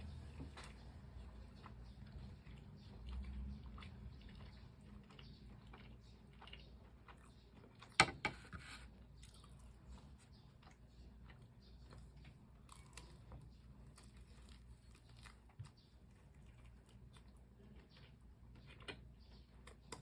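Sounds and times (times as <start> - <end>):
chewing crunchy fried chicken: 0.0 - 20.0
faint low hum: 0.0 - 20.0.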